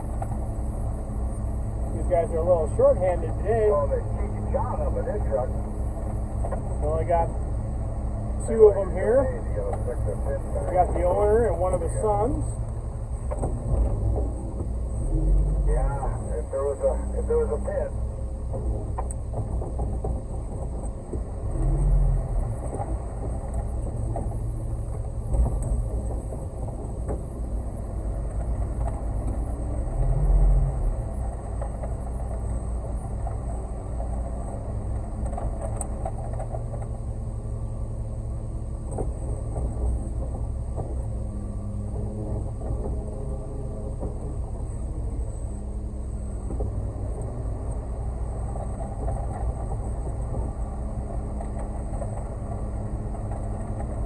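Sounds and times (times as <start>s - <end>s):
truck engine low rumble: 0.0s - 54.0s.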